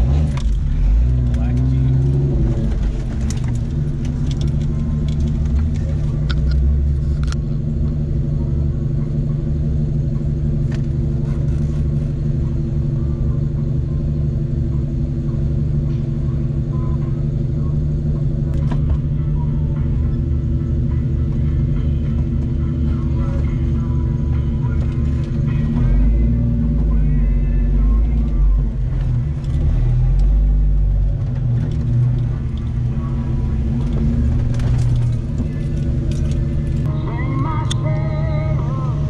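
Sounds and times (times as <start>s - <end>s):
car engine rumbling at low speed: 0.0s - 39.0s.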